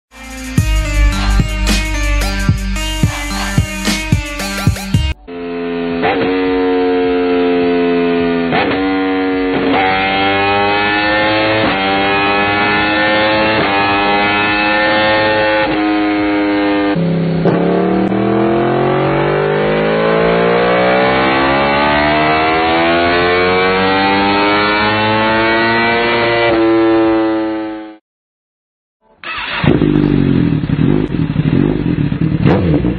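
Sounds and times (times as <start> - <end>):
motorcycle engine revving: 5.3 - 28.0, 29.1 - 32.9.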